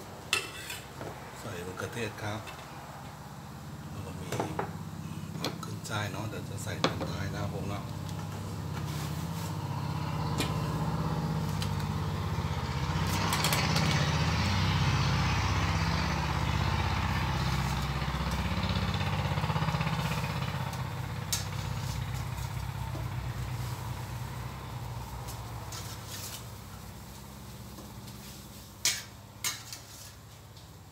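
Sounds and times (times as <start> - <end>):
gas burner humming: 0.0 - 29.7.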